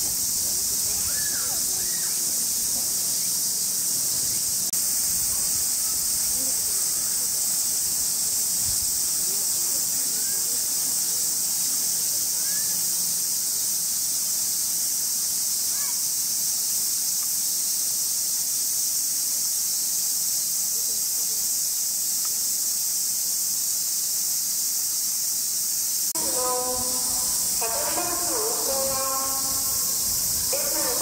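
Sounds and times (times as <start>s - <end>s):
cicadas shrilling: 0.0s - 31.0s.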